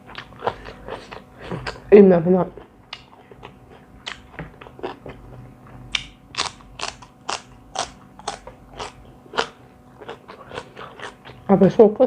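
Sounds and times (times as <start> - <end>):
person chewing crunchy food: 0.0 - 11.5.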